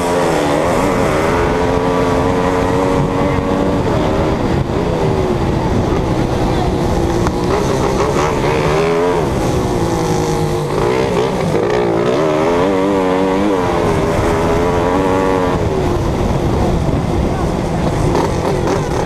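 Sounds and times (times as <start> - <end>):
engine revving: 0.0 - 19.0
rushing wind: 0.0 - 19.0.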